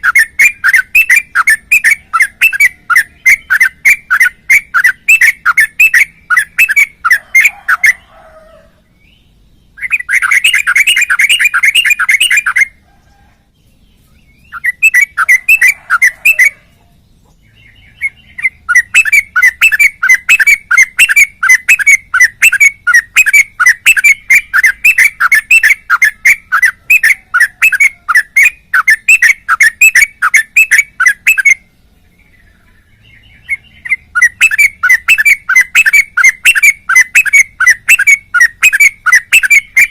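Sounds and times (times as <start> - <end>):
bulbul singing chirpy notes: 0.0 - 12.8, 13.7 - 39.9.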